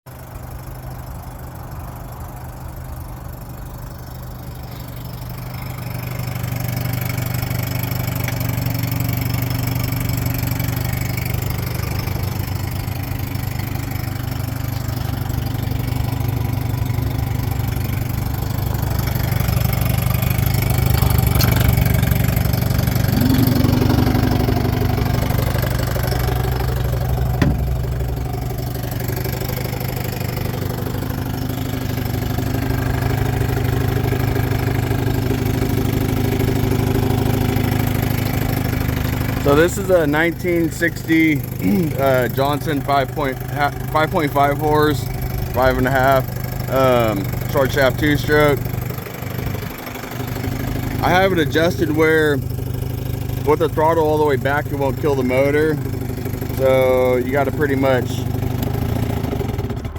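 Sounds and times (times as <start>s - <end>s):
outboard motor idling: 0.1s - 59.9s.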